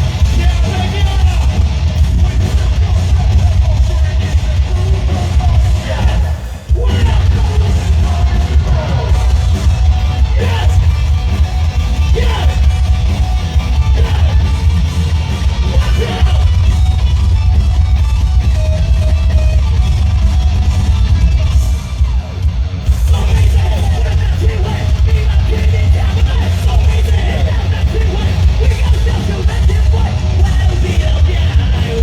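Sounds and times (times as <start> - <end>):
rock band playing live: 0.0 - 32.0
yelled vocals: 0.0 - 32.0.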